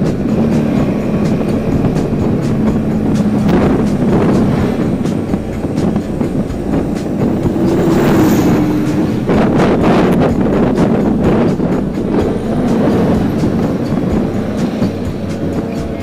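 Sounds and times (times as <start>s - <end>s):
gusty wind buffeting: 0.0s - 16.0s
motorcycle engine drone: 0.0s - 16.0s
wind rush on microphone: 0.0s - 16.0s.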